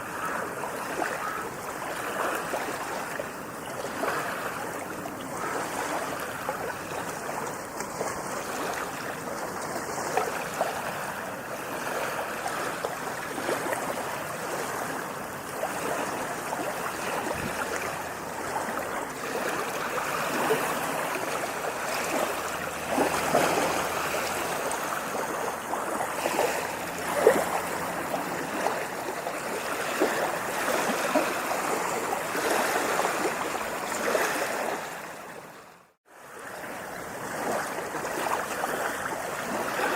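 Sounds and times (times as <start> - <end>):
water rushing: 0.0 - 39.9
water splashing and gurgling: 0.0 - 39.9.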